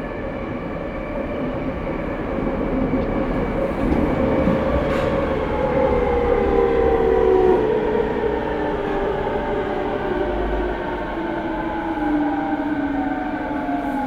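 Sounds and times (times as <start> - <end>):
wheels rumbling on rail: 1.1 - 12.5.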